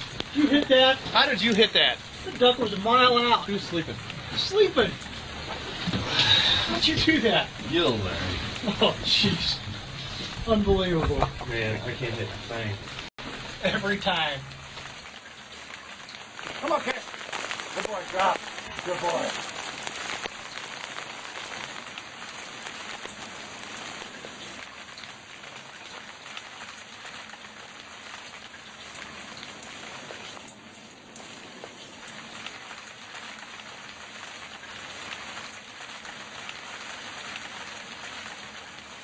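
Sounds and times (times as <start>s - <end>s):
rain patter: 0.0s - 39.0s.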